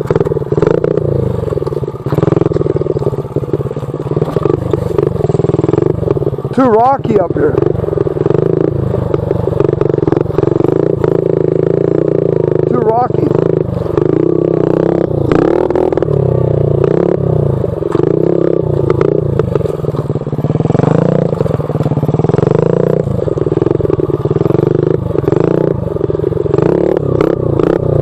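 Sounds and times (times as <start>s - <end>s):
motorbike engine revving: 0.0s - 28.0s.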